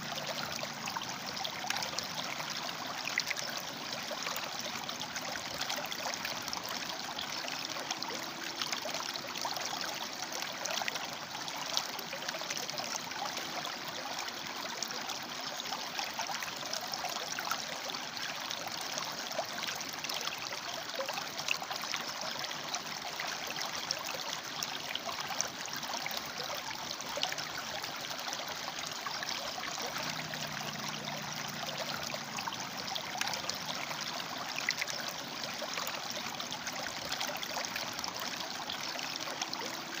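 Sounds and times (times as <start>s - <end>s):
river water flowing over rocks: 0.0s - 40.0s.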